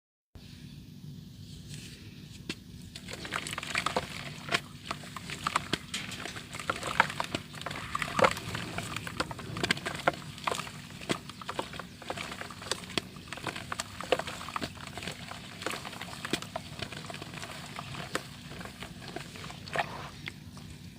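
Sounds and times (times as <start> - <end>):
wet dirt crumbling: 2.4 - 20.9.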